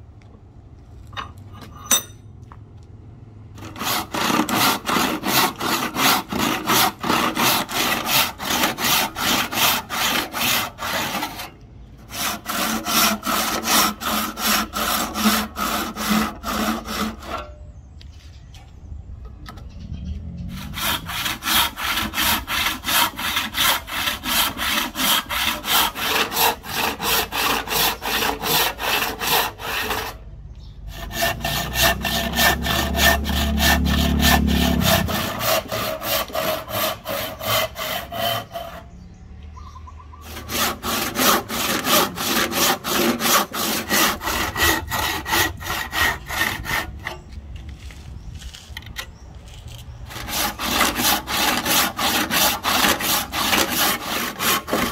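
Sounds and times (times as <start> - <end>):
hand saw cutting wood: 3.6 - 17.6, 20.5 - 30.2, 30.9 - 39.0, 40.2 - 54.9.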